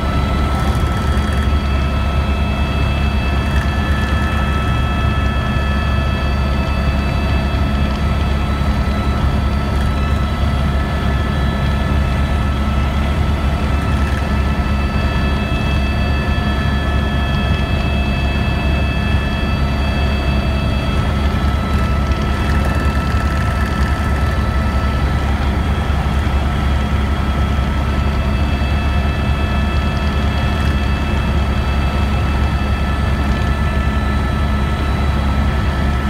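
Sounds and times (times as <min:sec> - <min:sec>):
helicopter engine and rotor drone: 0:00.0 - 0:36.0.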